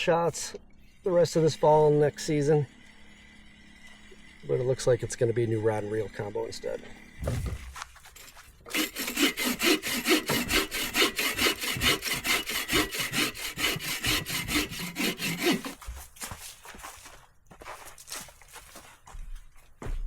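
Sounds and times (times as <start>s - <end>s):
saw cutting through wood: 0.0s - 16.4s.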